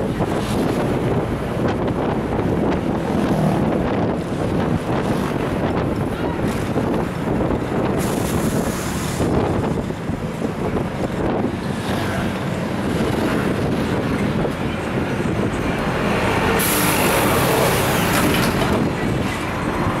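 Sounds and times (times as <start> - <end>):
air rushing through windows: 0.0 - 20.0
bus engine and road noise: 0.0 - 20.0.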